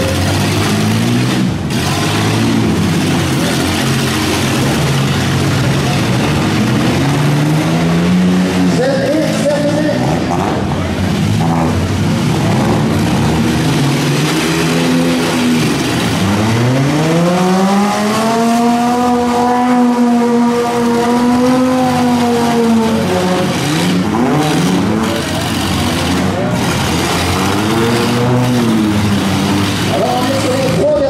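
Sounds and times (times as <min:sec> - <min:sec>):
car engines running hard: 0:00.0 - 0:31.0
engine revving high: 0:00.0 - 0:31.0.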